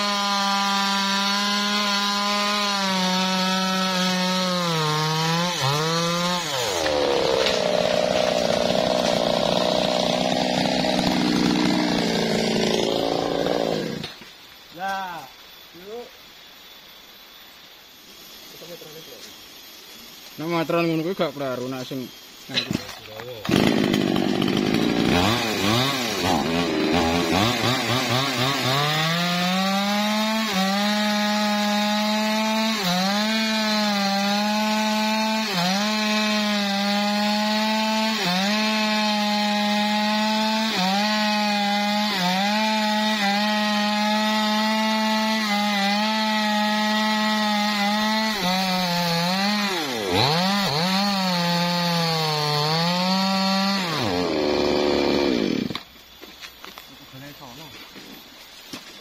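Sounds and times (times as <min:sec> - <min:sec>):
chainsaw cutting log: 0:00.0 - 0:14.2, 0:22.6 - 0:55.9.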